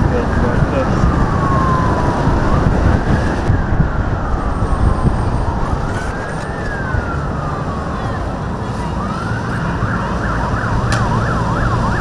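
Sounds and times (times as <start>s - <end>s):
loud wind: 0.0s - 12.0s
road rumble: 0.0s - 12.0s
wailing siren: 0.0s - 12.0s.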